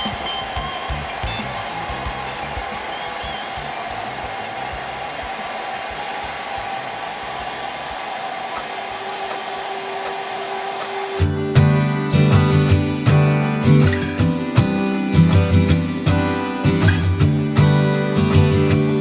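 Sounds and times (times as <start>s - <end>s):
machine running with rushing hum: 0.0s - 19.0s.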